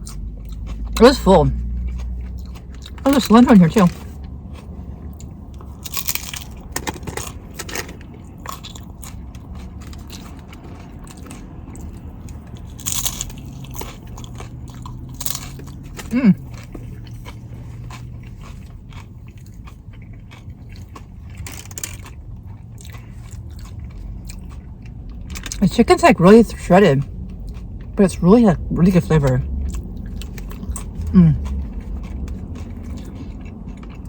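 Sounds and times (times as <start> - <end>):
chewing: 0.0 - 25.7, 26.4 - 34.0
crunching bites of tacos: 0.0 - 25.7, 26.5 - 34.0.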